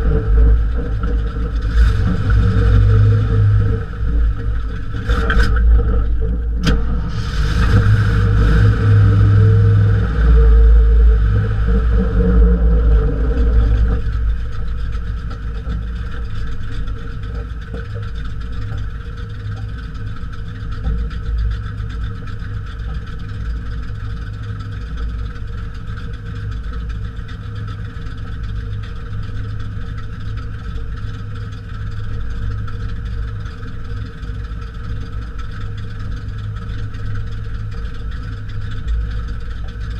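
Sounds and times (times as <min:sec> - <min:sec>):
car engine rumbling and idling: 0:00.0 - 0:39.9.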